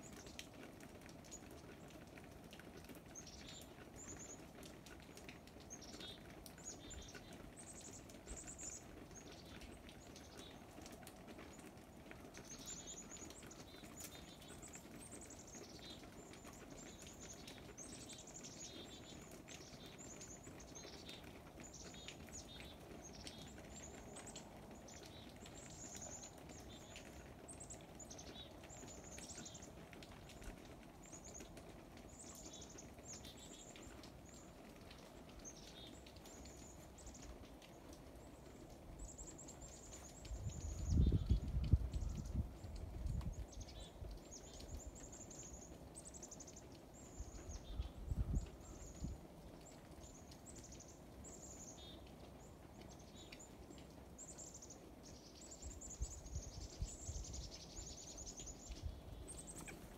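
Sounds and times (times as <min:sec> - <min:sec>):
low steady background noise: 0:00.0 - 0:59.9
small birds chirping: 0:00.0 - 0:59.9.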